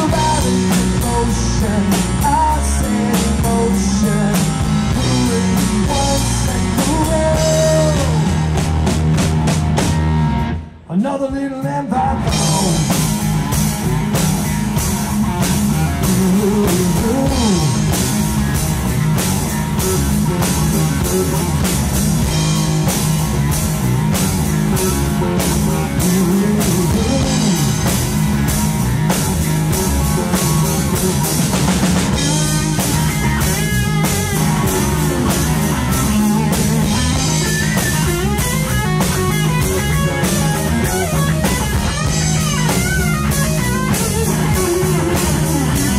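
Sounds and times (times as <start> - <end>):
drum kit: 0.0 - 10.8, 11.6 - 45.9
electric guitar with bending notes: 0.0 - 45.9.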